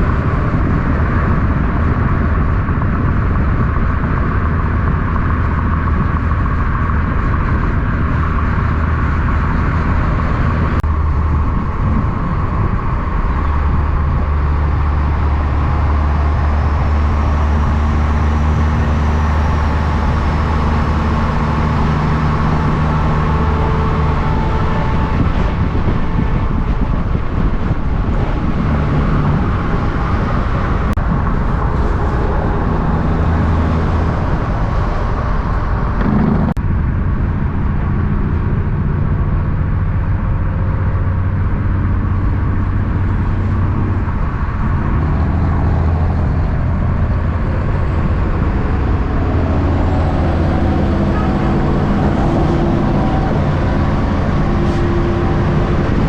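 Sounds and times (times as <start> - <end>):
road noise: 0.0 - 56.0
truck engines running: 0.0 - 56.0.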